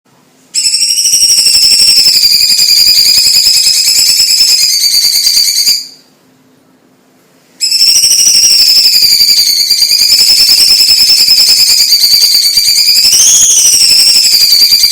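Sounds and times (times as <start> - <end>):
bird singing buzzy trill: 0.6 - 6.1, 7.6 - 14.9.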